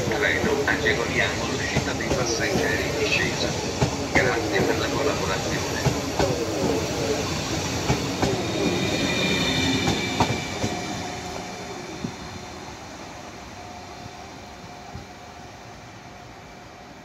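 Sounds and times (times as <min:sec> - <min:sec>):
falling train whine: 0:00.0 - 0:17.0.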